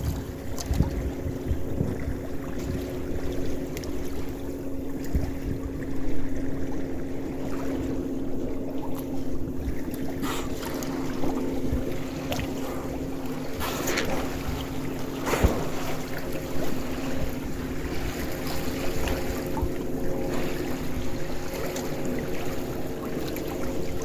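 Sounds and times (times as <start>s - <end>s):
wind buffeting microphone: 0.0s - 7.8s, 9.1s - 21.7s
steady low hum: 0.0s - 24.0s
water rushing past hull: 0.0s - 24.0s.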